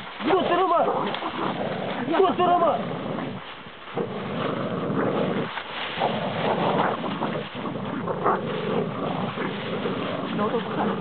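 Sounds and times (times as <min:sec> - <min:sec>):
scuffling through dry leaves: 0:00.0 - 0:11.0
wind on microphone: 0:00.0 - 0:11.0
dogs growling: 0:00.2 - 0:11.0.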